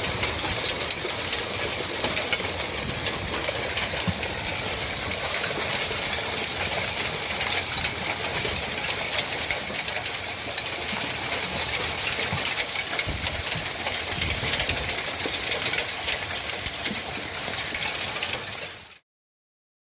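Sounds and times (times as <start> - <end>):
hail falling hard: 0.0 - 19.0.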